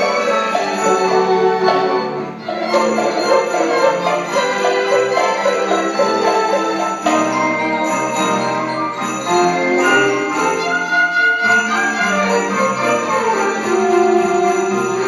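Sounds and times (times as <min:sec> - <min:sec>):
orchestra playing lively piece: 0:00.0 - 0:15.0
sleigh bells jingling: 0:00.0 - 0:15.0.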